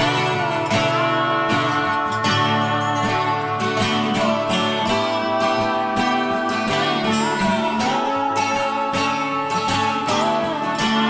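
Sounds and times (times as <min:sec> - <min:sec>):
strummed acoustic guitar music: 0:00.0 - 0:11.0.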